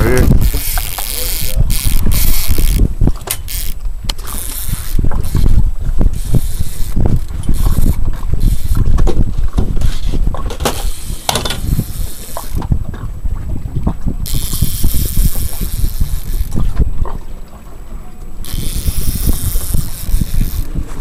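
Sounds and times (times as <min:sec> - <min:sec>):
water slapping boat hull: 0:00.0 - 0:21.0
wind buffeting microphone: 0:00.0 - 0:21.0.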